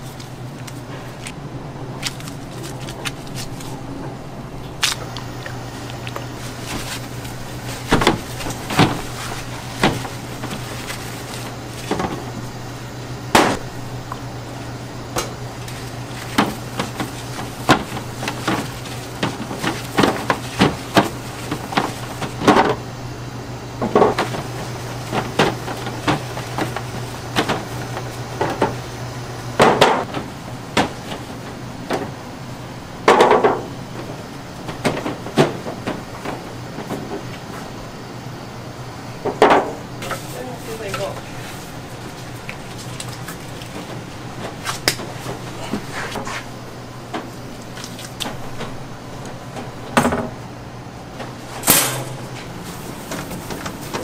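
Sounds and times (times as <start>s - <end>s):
low hum of kitchen equipment: 0.0s - 54.0s.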